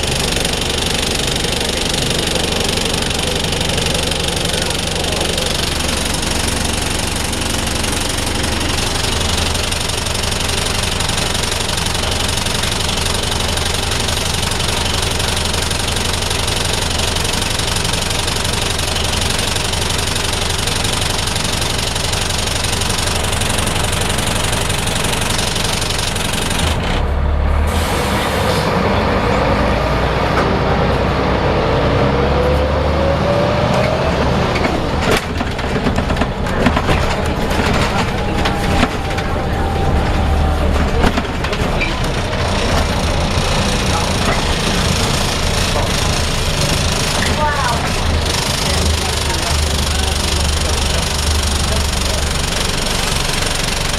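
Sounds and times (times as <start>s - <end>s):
diesel bus engine idling roughly: 0.0s - 53.9s.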